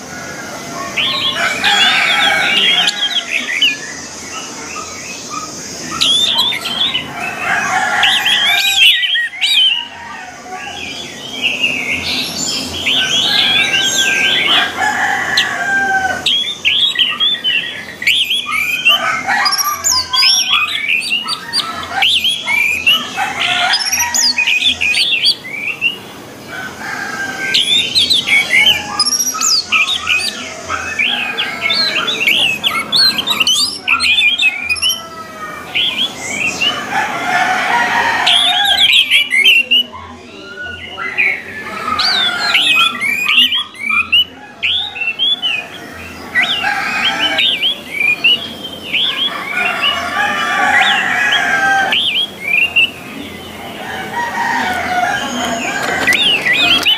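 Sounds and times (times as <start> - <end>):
thrushes singing: 0.0 - 56.9.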